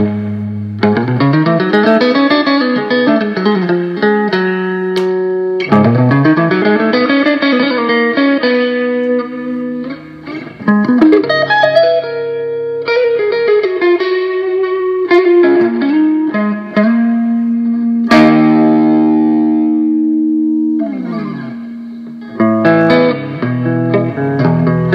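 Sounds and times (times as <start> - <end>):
electric guitar lead line: 0.0 - 24.9.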